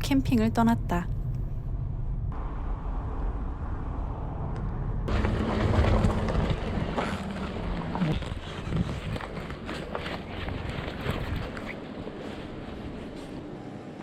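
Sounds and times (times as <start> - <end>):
car engine and tyre rumble: 0.8 - 14.0.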